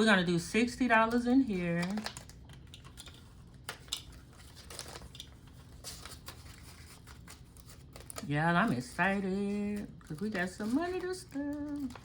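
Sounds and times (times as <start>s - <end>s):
paper bills rustling: 1.0s - 12.0s.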